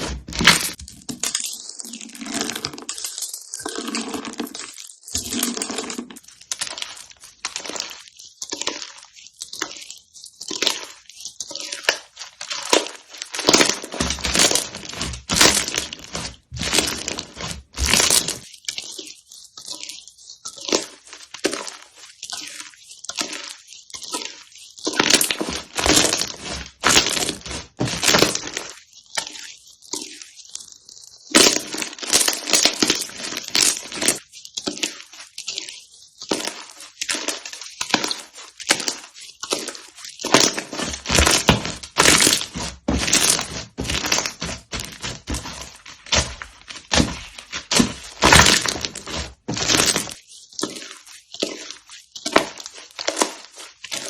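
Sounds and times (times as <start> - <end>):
slime squeezed crackling: 0.0 - 54.0.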